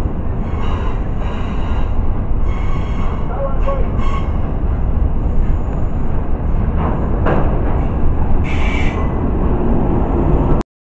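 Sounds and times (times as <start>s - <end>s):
train wheels rumbling on rails: 0.0s - 10.6s.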